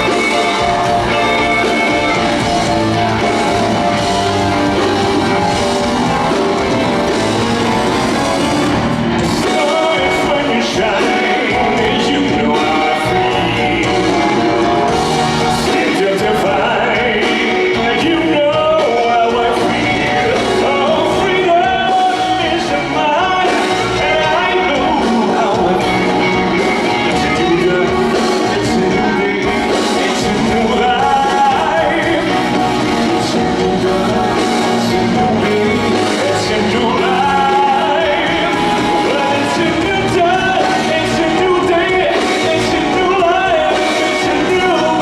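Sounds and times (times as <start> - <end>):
band playing: 0.0 - 45.0
man singing: 0.0 - 45.0.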